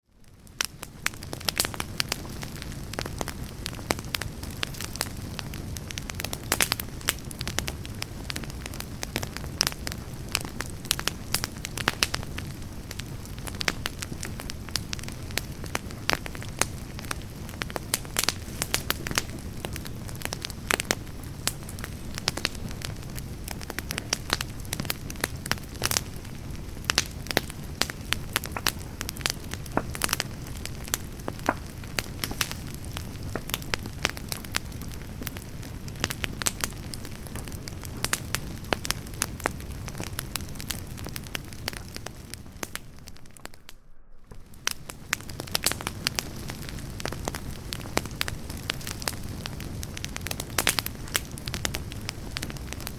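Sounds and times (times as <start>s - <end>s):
firewood crackling and popping: 0.1s - 52.9s
campfire flame rushing: 0.2s - 52.9s.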